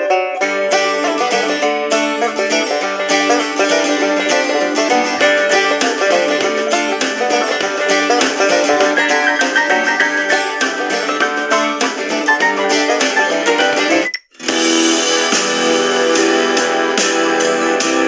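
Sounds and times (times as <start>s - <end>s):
banjo music on small speaker: 0.0s - 18.0s.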